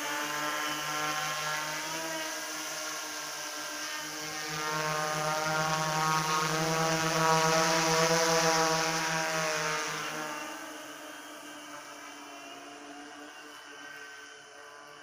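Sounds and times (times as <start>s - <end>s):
drone buzzing: 0.0s - 15.0s.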